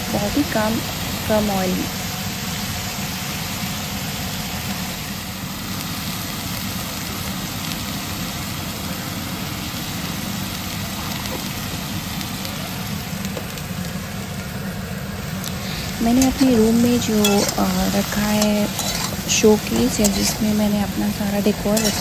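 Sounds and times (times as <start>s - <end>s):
vegetables sizzling in a pan: 0.0s - 22.0s.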